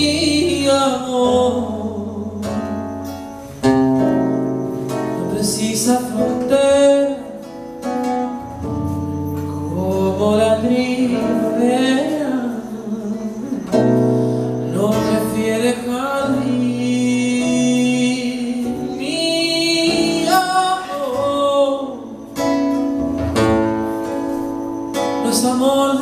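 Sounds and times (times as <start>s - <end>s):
acoustic guitar: 0.0s - 26.0s.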